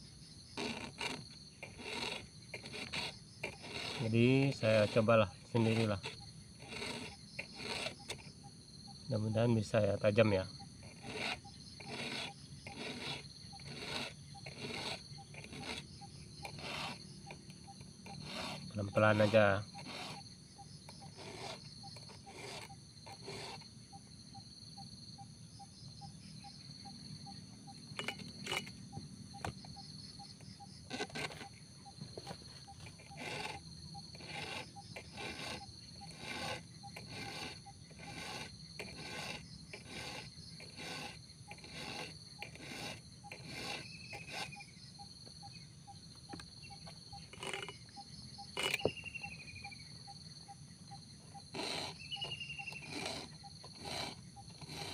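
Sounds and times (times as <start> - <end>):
insects chirping and buzzing: 0.0 - 54.9
file rasping on chainsaw chain: 0.4 - 23.7, 27.2 - 45.5, 46.2 - 49.8, 51.2 - 54.9.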